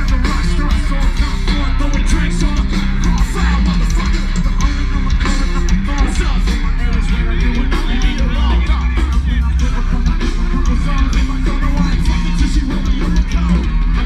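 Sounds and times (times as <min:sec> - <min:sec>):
live rock band playing: 0:00.0 - 0:14.0
person singing: 0:00.0 - 0:14.0.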